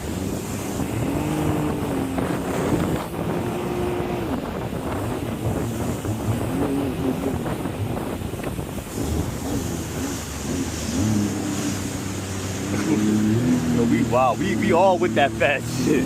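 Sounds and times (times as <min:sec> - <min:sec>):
jet ski engine running: 0:00.0 - 0:16.0
wind buffeting microphone: 0:00.0 - 0:16.0.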